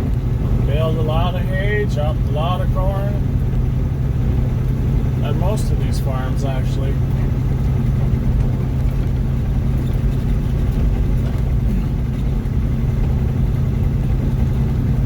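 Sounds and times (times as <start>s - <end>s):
road noise: 0.0s - 15.0s
truck engine drone in cab: 0.0s - 15.0s.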